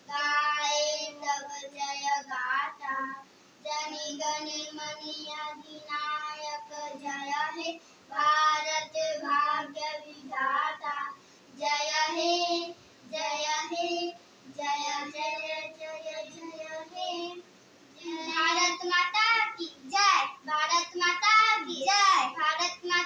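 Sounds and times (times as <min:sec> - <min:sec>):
boys singing unaccompanied: 0:00.0 - 0:23.0.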